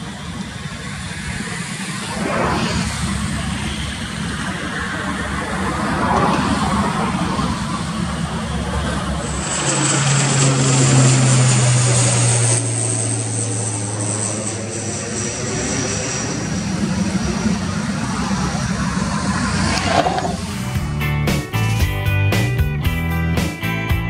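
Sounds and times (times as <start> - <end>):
high turbine whine: 0.0 - 21.0
propeller drone: 0.0 - 23.9.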